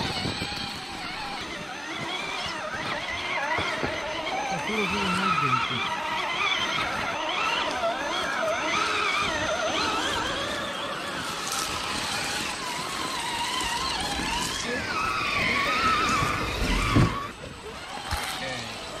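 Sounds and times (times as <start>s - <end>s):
rc car electric motors whining: 0.0s - 19.0s.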